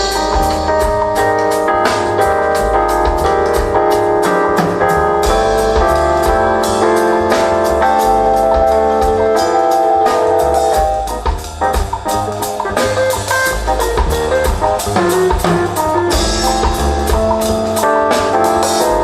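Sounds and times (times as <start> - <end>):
double bass: 0.0 - 19.0
drum kit cymbal beat: 0.0 - 19.0
piano chords: 0.0 - 19.0.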